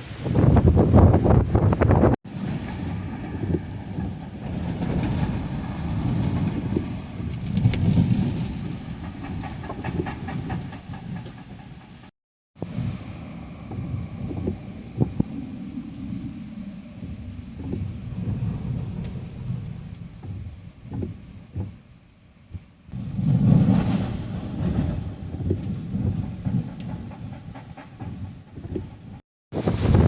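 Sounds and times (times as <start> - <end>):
wind gusting on microphone: 0.0 - 30.0.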